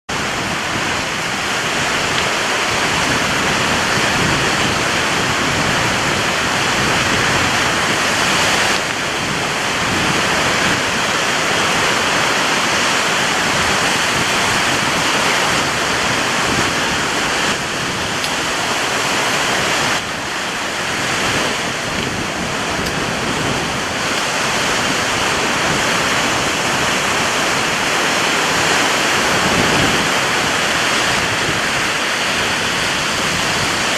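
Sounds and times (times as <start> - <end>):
ocean surf breaking on beach: 0.1 - 33.9.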